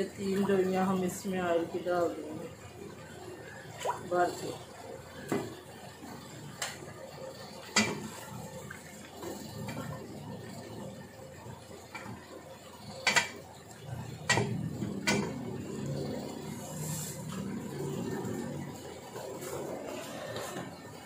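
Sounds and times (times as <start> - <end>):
masala frying in oil: 0.0 - 21.0.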